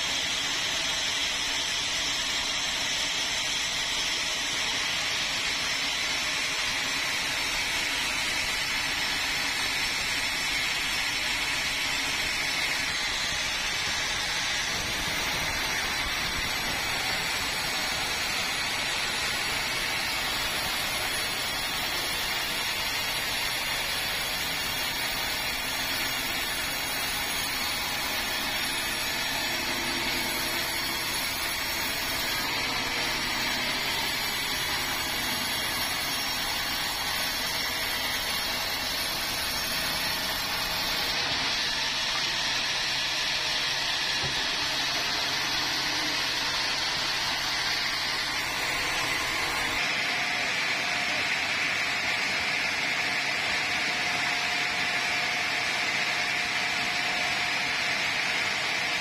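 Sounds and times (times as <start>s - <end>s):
band saw cutting log: 0.0s - 59.0s
sawmill machine running: 0.0s - 59.0s.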